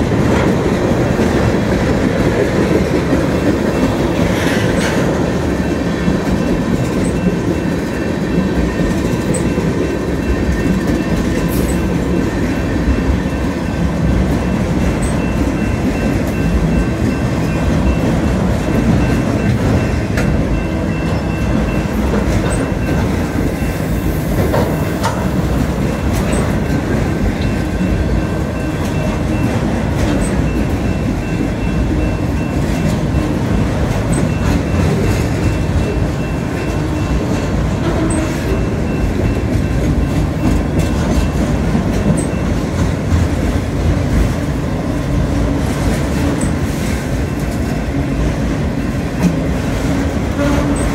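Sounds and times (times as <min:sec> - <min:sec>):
clickety-clack over rail joints: 0:00.0 - 0:50.9
freight train wheels rumbling: 0:00.0 - 0:50.9.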